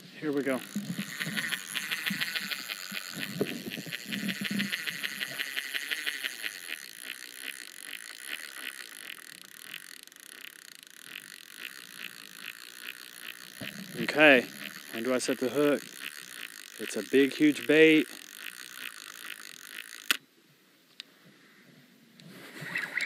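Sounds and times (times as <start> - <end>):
fishing reel gears clicking: 0.3 - 20.2.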